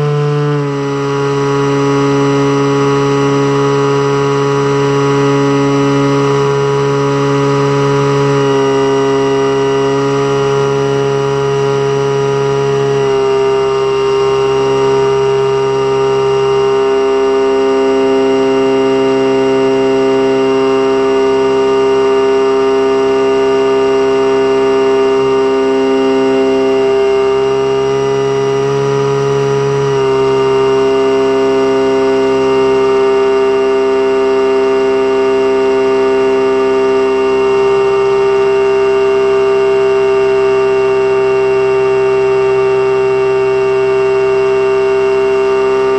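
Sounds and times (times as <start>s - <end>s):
electric motor and propeller whine: 0.0s - 45.9s.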